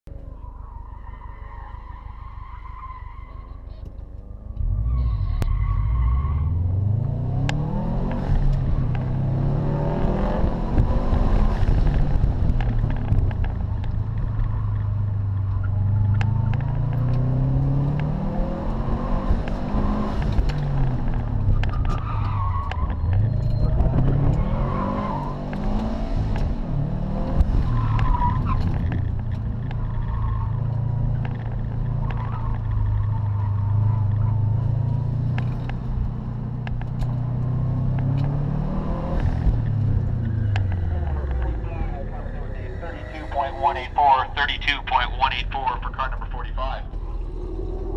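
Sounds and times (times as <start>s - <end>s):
tires squealing: 0.2s - 3.9s, 4.5s - 44.8s
car engine accelerating: 3.8s - 47.9s.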